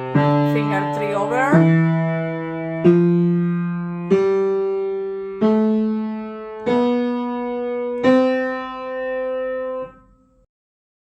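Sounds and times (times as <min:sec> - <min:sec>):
piano notes: 0:00.0 - 0:10.5.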